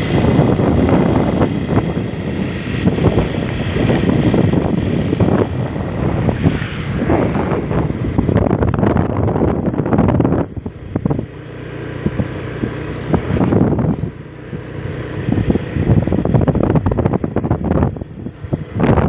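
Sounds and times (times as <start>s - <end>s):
steady engine hum: 0.0s - 19.0s
wind buffeting microphone: 0.0s - 19.0s.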